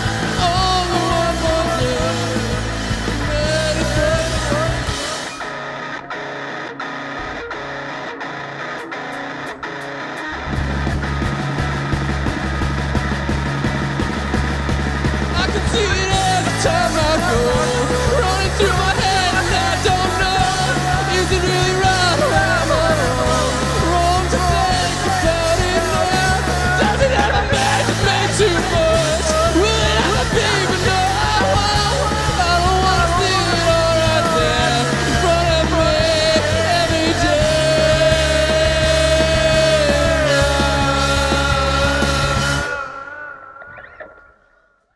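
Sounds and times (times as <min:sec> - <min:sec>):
rock band playing loud: 0:00.0 - 0:44.2.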